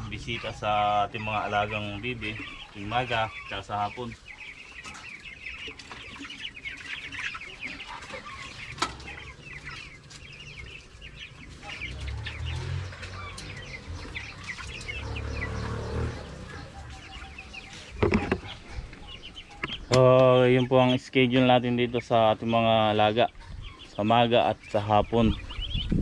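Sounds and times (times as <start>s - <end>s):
poultry clucking: 0.0s - 26.0s.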